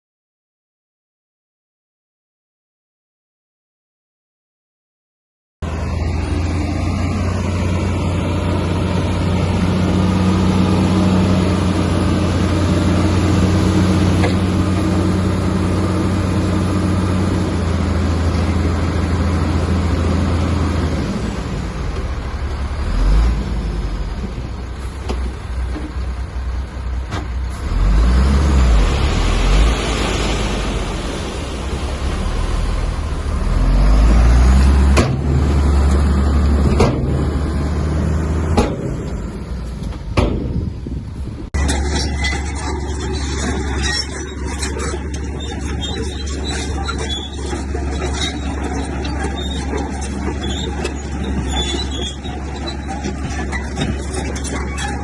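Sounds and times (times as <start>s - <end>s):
diesel machinery engine running: 5.6s - 55.0s.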